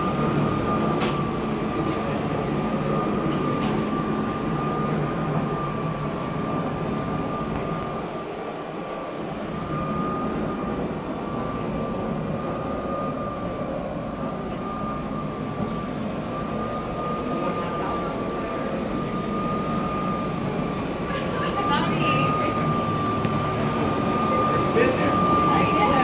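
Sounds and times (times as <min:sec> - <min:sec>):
floor burnisher whining: 0:00.0 - 0:26.0.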